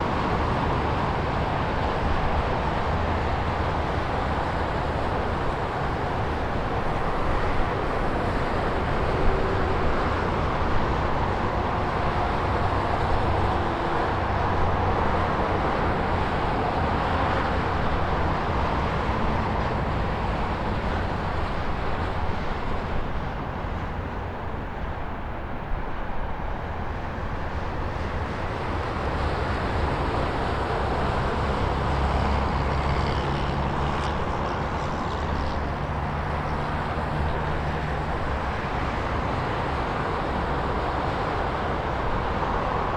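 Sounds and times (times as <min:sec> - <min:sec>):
highway traffic roar: 0:00.0 - 0:42.9.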